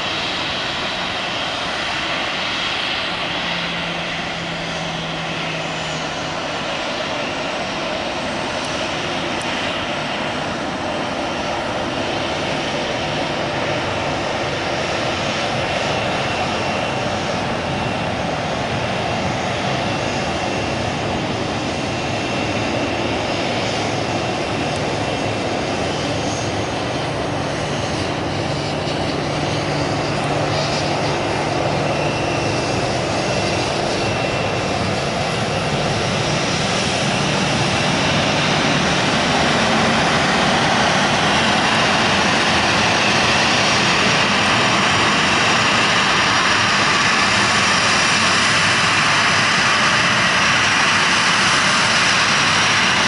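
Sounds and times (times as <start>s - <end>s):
jet engines at taxi power: 0.0s - 53.0s.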